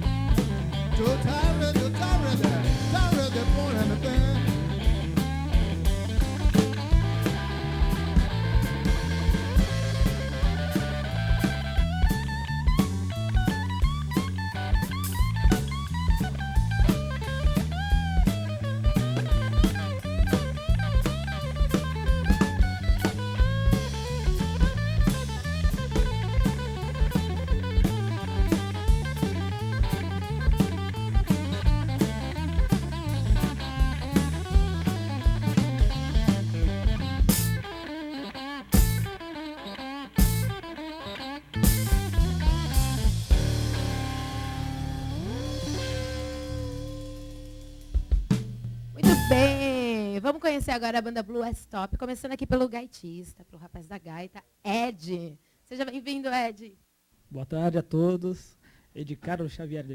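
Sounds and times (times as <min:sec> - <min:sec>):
bass line: 0:00.0 - 0:39.4, 0:40.1 - 0:40.8, 0:41.4 - 0:50.2
drum kit: 0:00.0 - 0:39.4, 0:40.1 - 0:40.8, 0:41.6 - 0:50.0
lead instrument bent notes: 0:00.0 - 0:48.4, 0:49.0 - 0:50.0
live blues band: 0:00.0 - 0:50.0.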